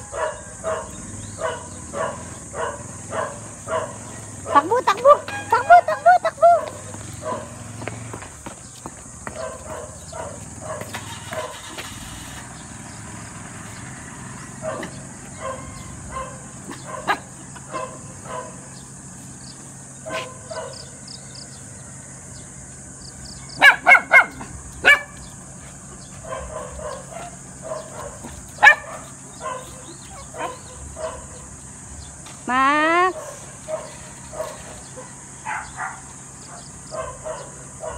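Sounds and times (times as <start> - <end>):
dogs barking and yipping: 0.0 - 21.8, 23.0 - 37.9.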